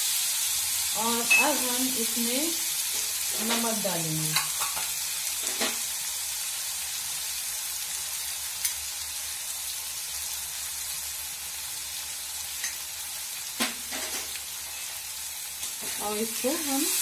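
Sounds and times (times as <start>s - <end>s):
lentils sizzling in a pan: 0.0s - 17.0s.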